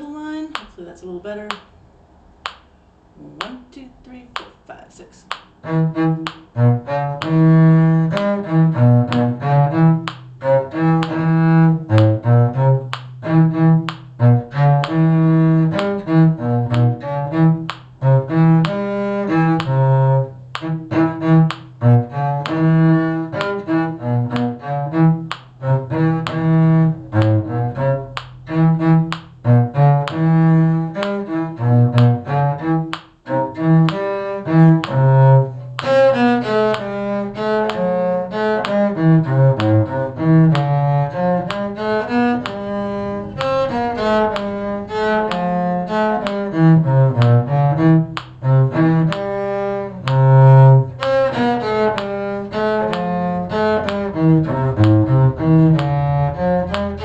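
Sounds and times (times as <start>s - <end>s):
low cello line: 0.0s - 1.7s, 5.2s - 57.0s
bowed string ensemble: 5.3s - 57.0s.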